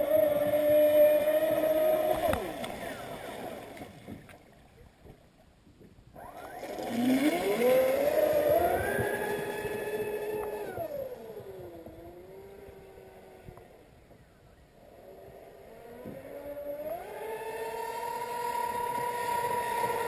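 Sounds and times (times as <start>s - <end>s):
electric motor whine: 0.0s - 3.7s, 6.2s - 20.0s.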